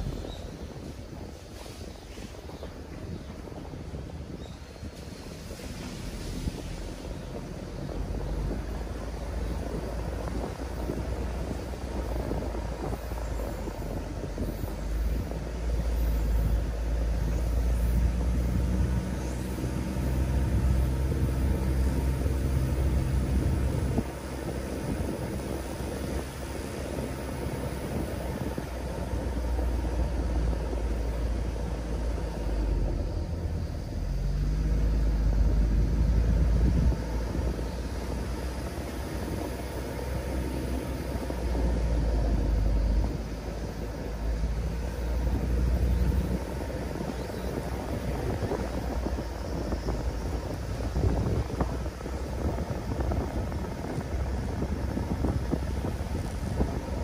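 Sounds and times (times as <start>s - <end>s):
diesel engine driving on rough road: 0.0s - 57.0s.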